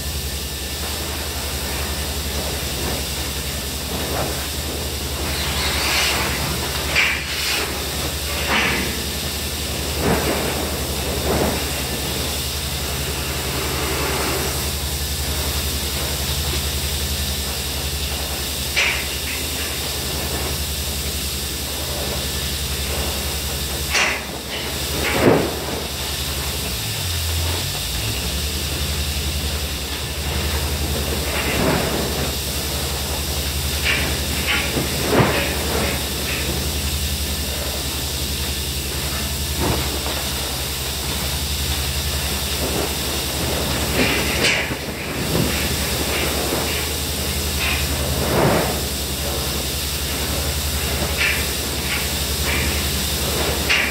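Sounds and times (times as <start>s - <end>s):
equipment hum and hiss: 0.0s - 53.9s.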